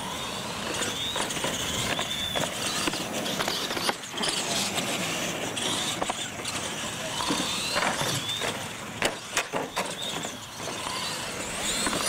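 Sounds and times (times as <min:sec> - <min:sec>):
toy truck motors whining: 0:00.0 - 0:12.0
trucks clattering on concrete: 0:00.6 - 0:12.0.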